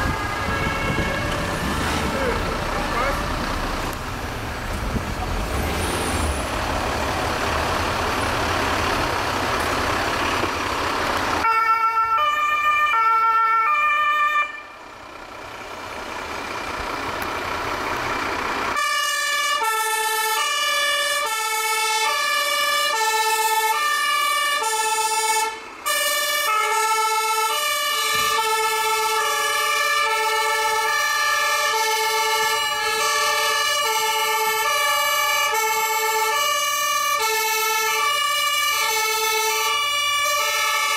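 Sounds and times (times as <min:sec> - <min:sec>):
two-tone fire engine sirens: 0:00.0 - 0:04.3, 0:06.9 - 0:40.9.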